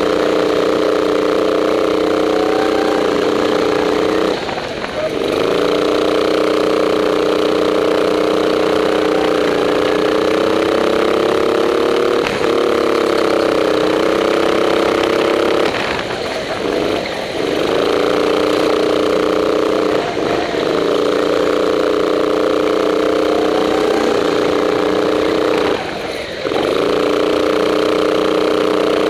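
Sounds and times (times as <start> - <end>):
go-kart engine revving high: 0.0 - 29.0.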